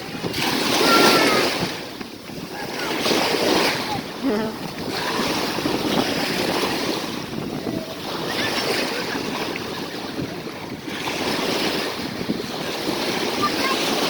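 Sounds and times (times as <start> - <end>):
sea waves washing onto shore: 0.0 - 14.0
wind buffeting microphone: 0.0 - 14.0.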